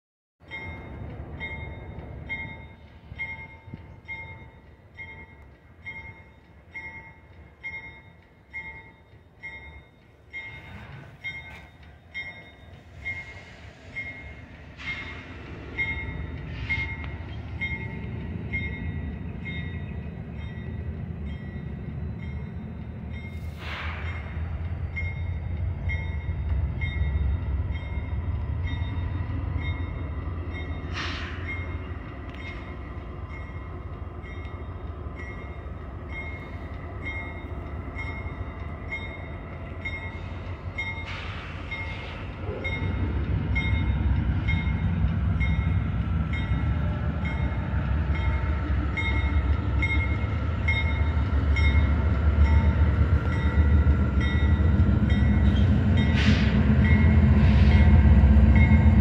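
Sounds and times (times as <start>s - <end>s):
diesel locomotives rumbling: 0.4s - 59.0s.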